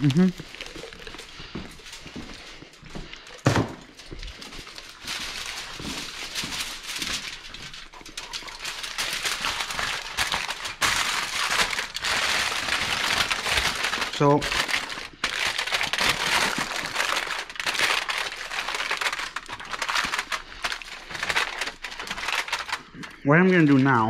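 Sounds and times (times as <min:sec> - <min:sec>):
aluminium foil crinkling: 0:00.0 - 0:24.0.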